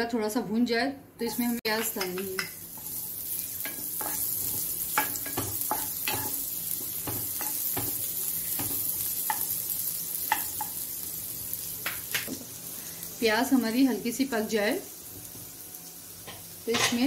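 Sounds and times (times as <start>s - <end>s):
onions sizzling in hot oil: 1.2s - 17.0s.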